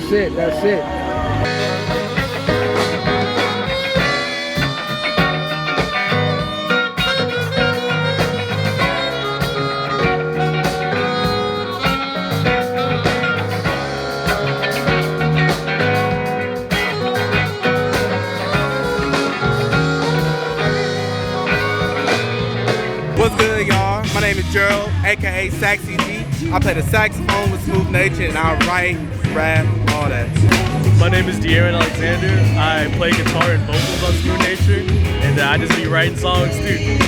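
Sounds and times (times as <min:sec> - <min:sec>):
bluesy guitar: 0:00.0 - 0:37.0
drums keeping a beat: 0:01.4 - 0:37.0.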